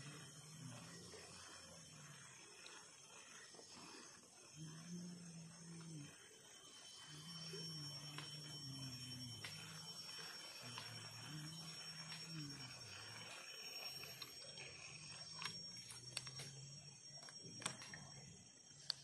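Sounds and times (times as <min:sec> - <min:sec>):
faint low wavering hum: 0:00.0 - 0:19.0
high-pitched insect drone: 0:00.0 - 0:19.0.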